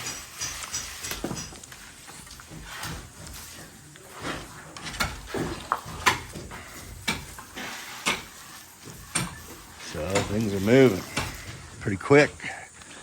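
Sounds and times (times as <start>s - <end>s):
sharp scraping knocks: 0.0s - 11.9s.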